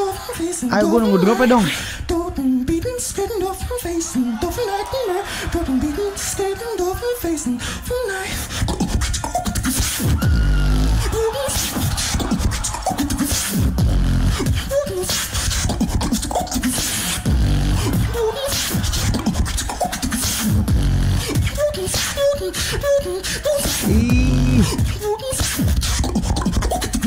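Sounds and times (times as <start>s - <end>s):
beatboxing into a microphone: 0.0s - 27.0s.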